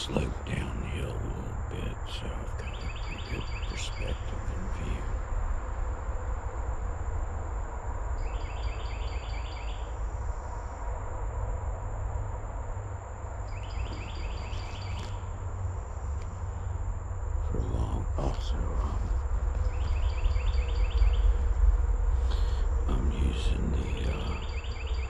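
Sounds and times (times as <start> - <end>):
insects high-pitched drone: 0.0 - 25.0
low steady rumble: 0.0 - 25.0.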